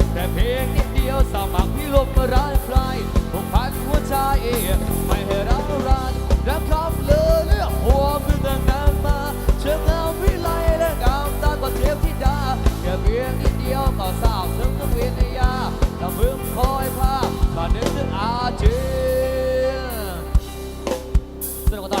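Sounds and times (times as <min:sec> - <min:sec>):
band music through loudspeakers: 0:00.0 - 0:22.0.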